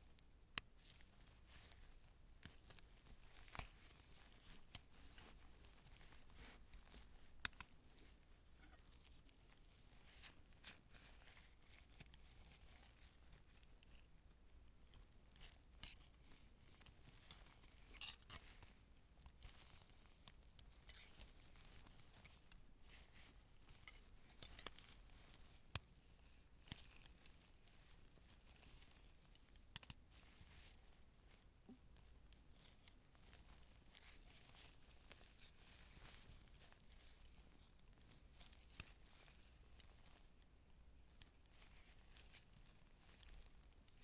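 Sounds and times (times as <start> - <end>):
clicks and taps of props handled: 0.0 - 44.0
soft crinkling: 0.0 - 44.0.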